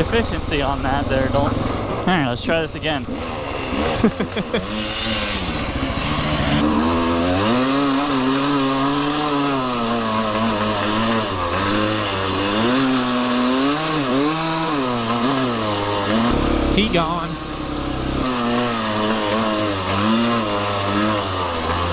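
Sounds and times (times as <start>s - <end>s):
dirt bike engine revving: 3.0s - 21.9s.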